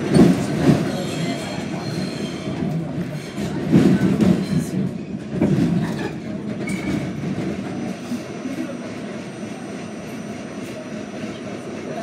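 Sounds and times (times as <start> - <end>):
subway train rumbling on track: 0.0 - 12.0.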